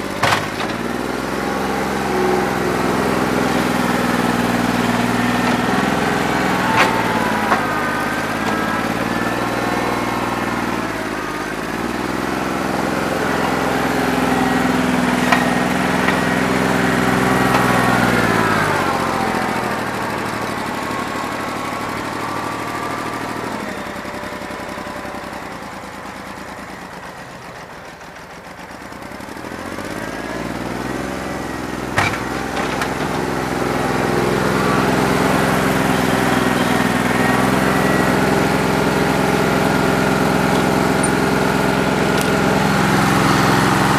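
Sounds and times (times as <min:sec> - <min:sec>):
misfiring diesel tractor engine: 0:00.0 - 0:43.9.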